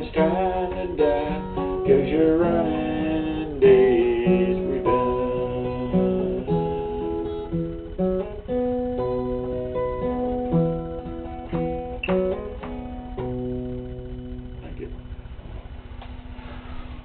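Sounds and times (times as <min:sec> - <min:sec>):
acoustic guitar strummed: 0:00.0 - 0:17.0.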